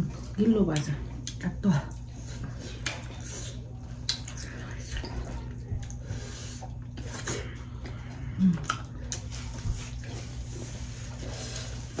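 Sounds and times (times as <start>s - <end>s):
low steady hum: 0.0s - 12.0s
wet chewing and lip smacks: 0.2s - 10.6s.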